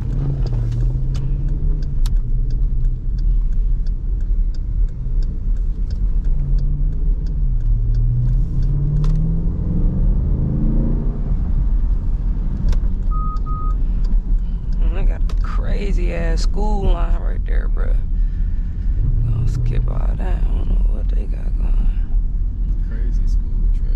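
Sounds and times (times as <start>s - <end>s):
engine rumbling inside car: 0.0s - 23.9s.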